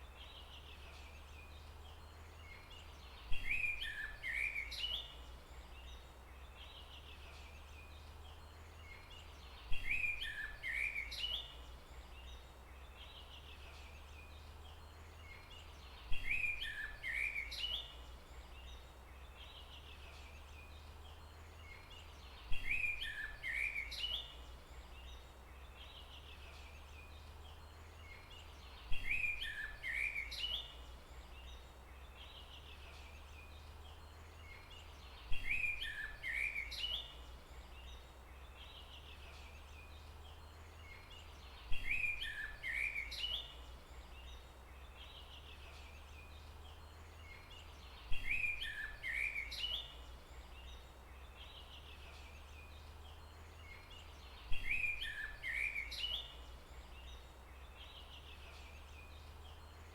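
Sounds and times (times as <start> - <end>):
low steady hum: 0.0 - 59.9
songbird singing: 0.0 - 59.9.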